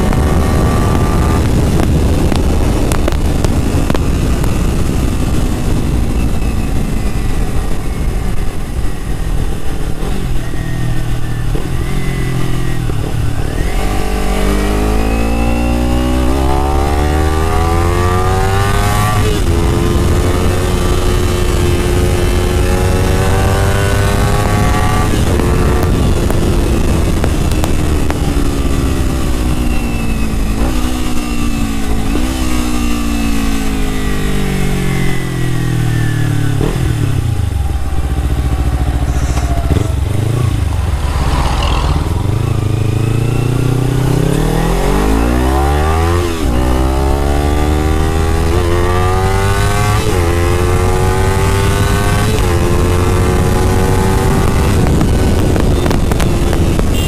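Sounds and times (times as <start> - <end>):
motorcycle engine revving: 0.0 - 57.0
wind rumble: 0.0 - 57.0.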